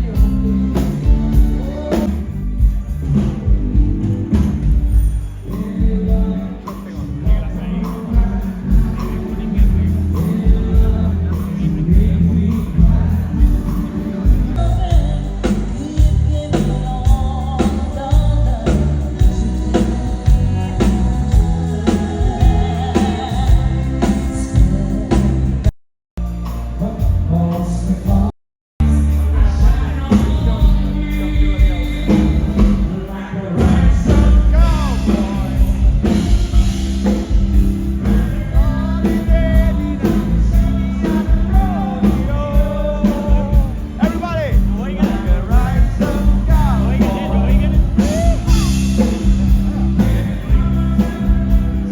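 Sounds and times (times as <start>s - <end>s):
band music with singer: 0.0s - 51.9s
drums steady beat: 0.0s - 51.9s.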